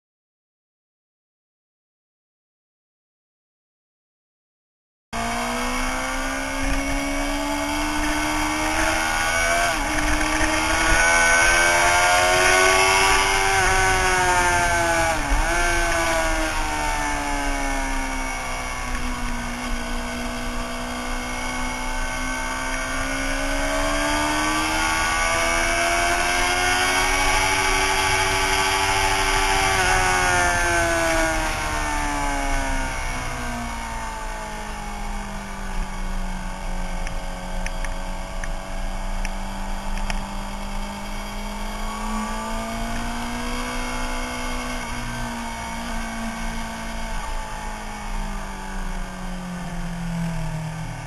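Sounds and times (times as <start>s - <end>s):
sportbike engine revving: 5.2s - 51.0s.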